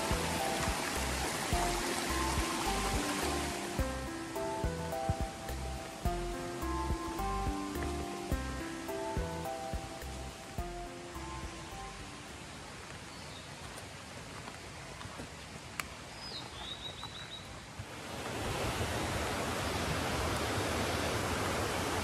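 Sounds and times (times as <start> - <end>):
rushing stream water: 0.0 - 22.0.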